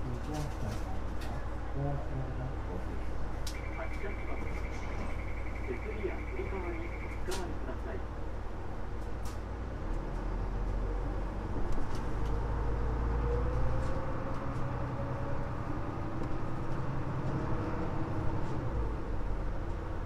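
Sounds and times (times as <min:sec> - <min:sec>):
bus diesel engine hum: 0:00.0 - 0:20.0.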